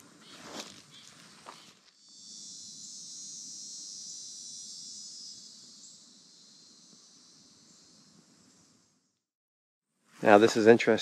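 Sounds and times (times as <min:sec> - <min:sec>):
insects droning: 0:00.0 - 0:09.2.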